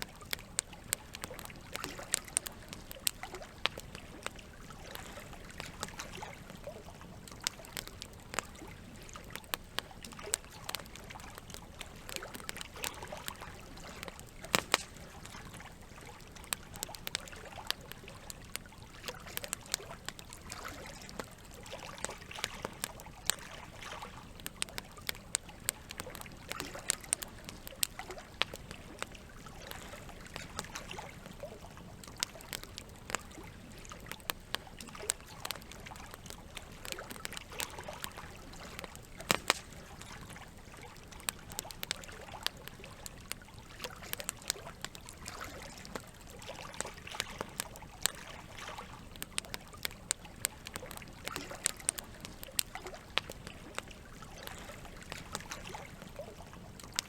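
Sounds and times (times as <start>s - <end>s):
campfire crackling and popping: 0.0s - 57.0s
trickle of running water: 0.0s - 57.0s.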